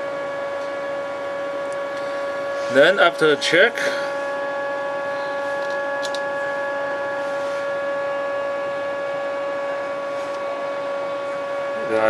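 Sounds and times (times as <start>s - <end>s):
machine hum with pitched whine: 0.0s - 12.0s.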